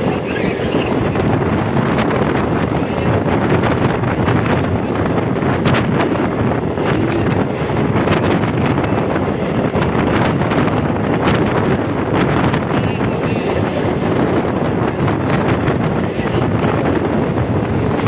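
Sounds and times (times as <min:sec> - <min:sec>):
steady rumble: 0:00.0 - 0:18.0
wind buffeting microphone: 0:00.0 - 0:18.0.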